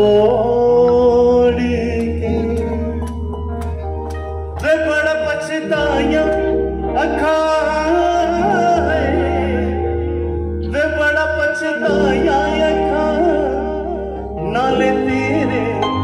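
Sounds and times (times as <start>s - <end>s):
bass line: 0.0s - 16.0s
keyboard chords: 0.0s - 16.0s
wavering instrumental melody: 0.9s - 16.0s.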